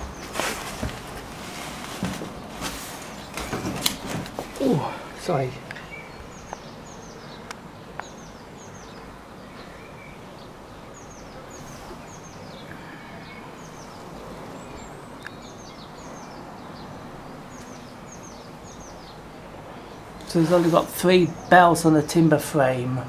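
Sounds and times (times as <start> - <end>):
small birds chirping: 0.0 - 23.0
steady background hiss: 0.0 - 23.0.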